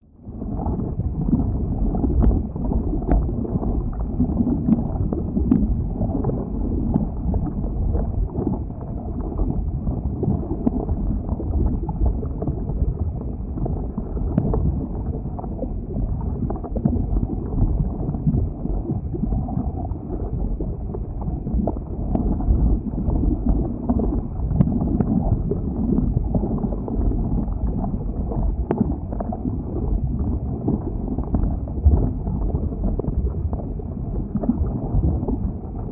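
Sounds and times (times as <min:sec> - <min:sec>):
lava flow rumble: 0:00.0 - 0:35.9.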